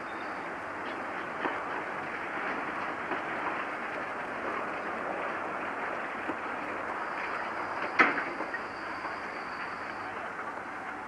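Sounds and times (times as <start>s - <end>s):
narrow-gauge train running: 0.0s - 11.0s.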